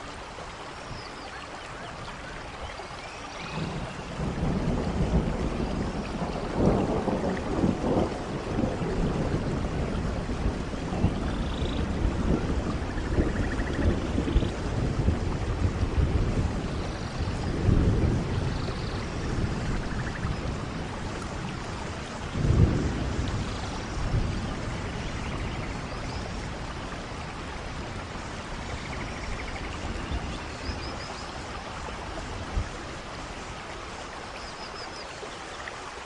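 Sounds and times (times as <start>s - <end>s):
steady rain: 0.0s - 36.0s
low rolls of thunder: 3.3s - 34.2s.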